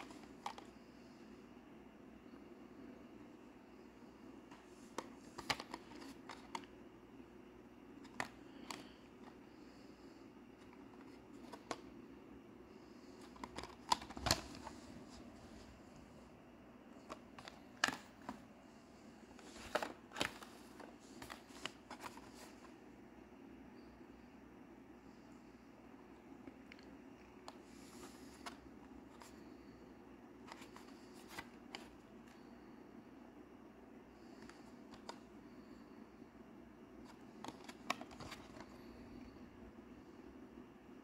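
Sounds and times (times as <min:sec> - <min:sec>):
faint room hum: 0:00.0 - 0:41.0.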